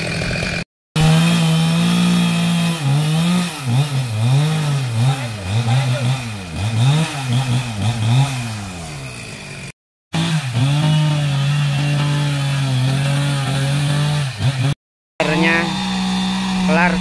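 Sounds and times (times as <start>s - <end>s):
chainsaw revving and cutting log: 0.0s - 17.0s.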